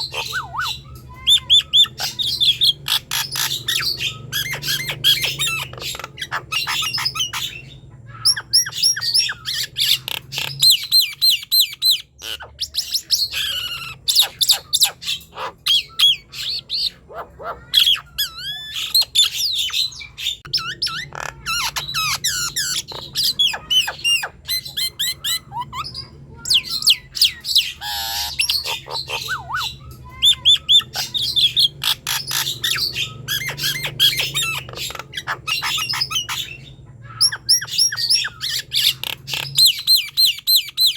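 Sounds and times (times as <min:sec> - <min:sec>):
myna bird singing: 0:00.0 - 0:40.9.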